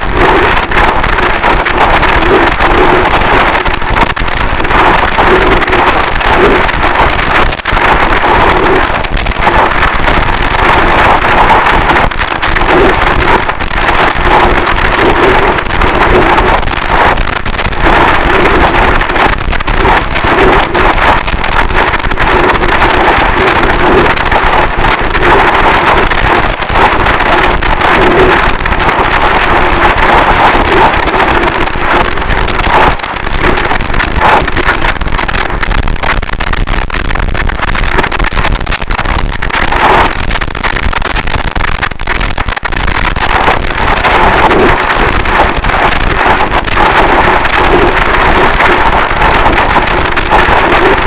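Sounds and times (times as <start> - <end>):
harsh distorted static noise: 0.0 - 51.0.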